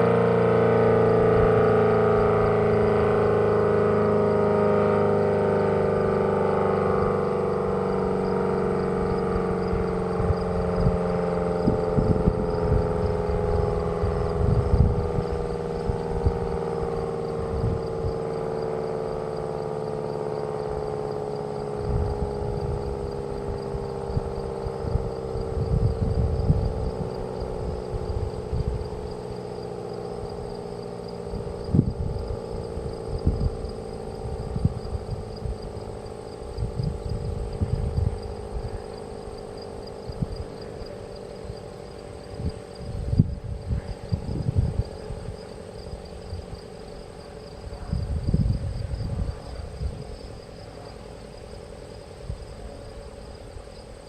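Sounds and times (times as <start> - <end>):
warning siren winding down: 0.0 - 54.0.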